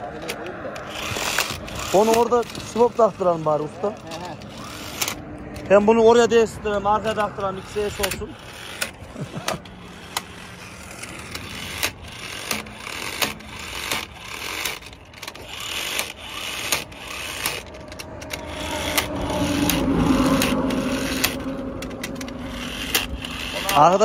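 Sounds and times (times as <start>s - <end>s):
motor hum: 0.1s - 24.0s.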